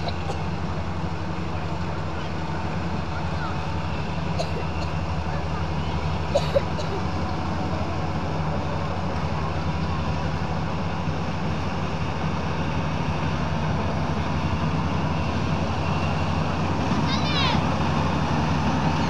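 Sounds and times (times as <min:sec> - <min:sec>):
combine harvester diesel engine: 0:00.0 - 0:19.0.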